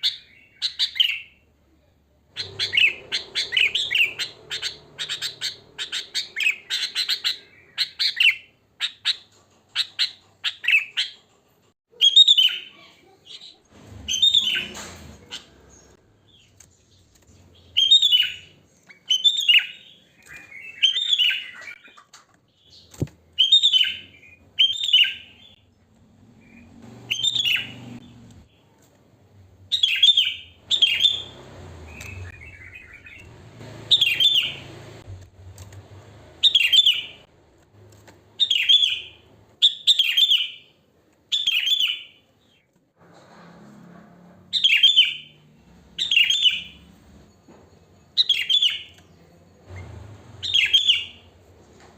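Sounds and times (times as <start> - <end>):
bird chirping: 0.0 - 11.3, 11.9 - 37.3, 38.2 - 42.7, 44.5 - 51.9.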